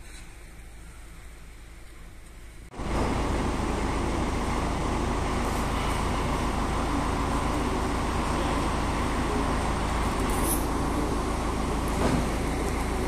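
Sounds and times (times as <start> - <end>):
machinery engine hum: 0.6 - 13.0.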